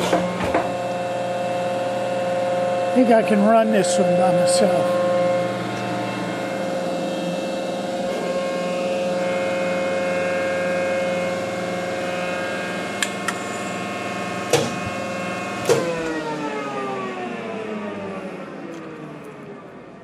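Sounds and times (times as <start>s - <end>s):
planer motor humming: 0.0s - 19.9s.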